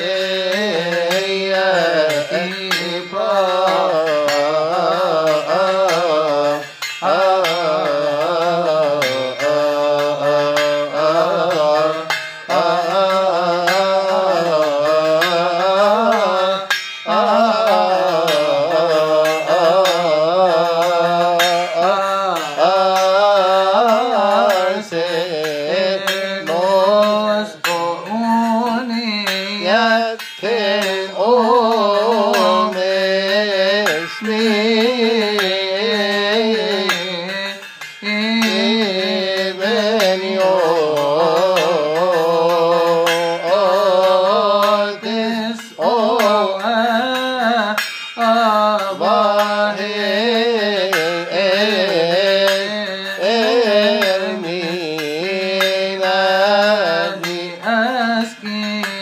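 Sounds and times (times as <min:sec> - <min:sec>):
man chanting a hymn: 0:00.0 - 0:59.0
small hand cymbals ringing: 0:00.0 - 0:59.0.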